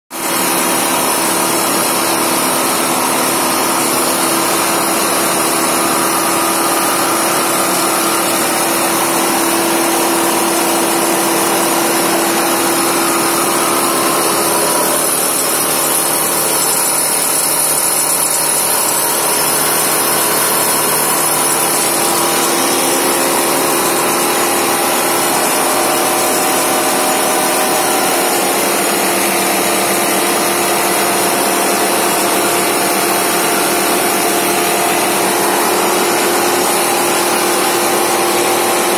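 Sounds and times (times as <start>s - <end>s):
carding machine running: 0.3s - 38.9s.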